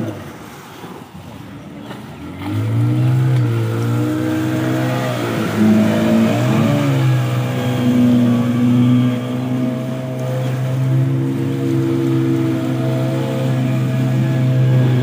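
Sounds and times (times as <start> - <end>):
outboard motor at high revs: 0.0 - 15.0.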